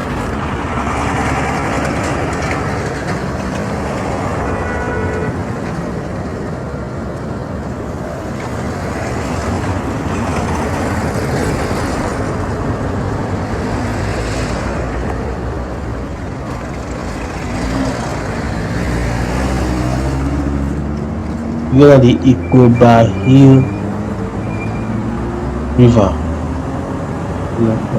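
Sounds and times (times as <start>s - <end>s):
low traffic rumble: 0.0s - 27.9s
vehicles passing: 0.0s - 27.9s.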